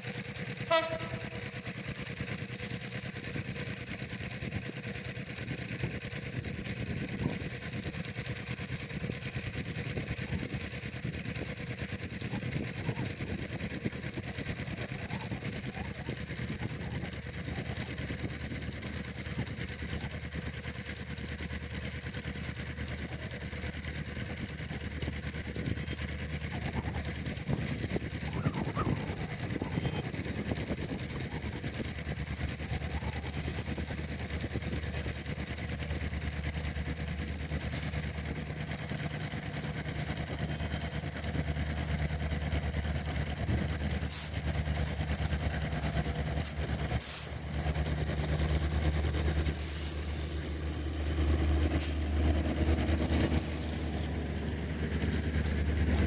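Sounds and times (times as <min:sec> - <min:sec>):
locomotive diesel engine: 0:00.0 - 0:56.0.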